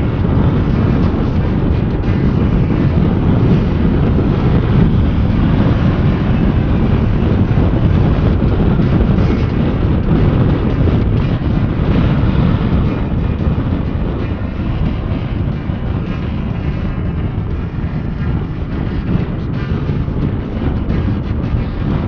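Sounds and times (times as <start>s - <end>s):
motorcycle engine: 0.0s - 22.0s
wind buffeting microphone: 0.0s - 22.0s.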